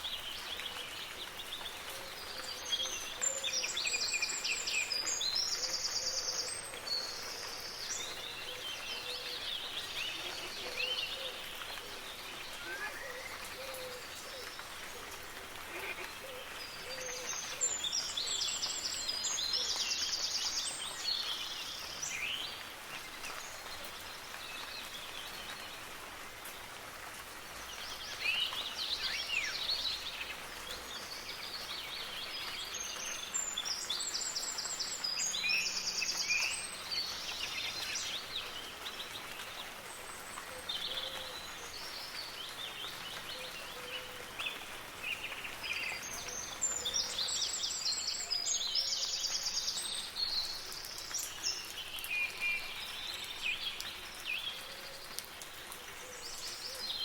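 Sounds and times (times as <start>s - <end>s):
soft rain hissing: 0.0s - 57.0s.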